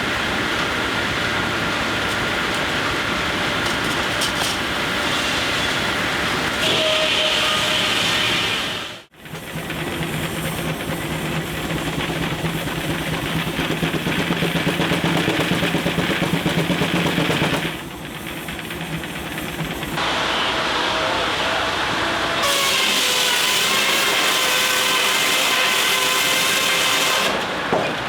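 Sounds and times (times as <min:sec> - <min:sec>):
steam engine pulsing: 0:00.0 - 0:28.0
steam hissing: 0:04.7 - 0:27.8.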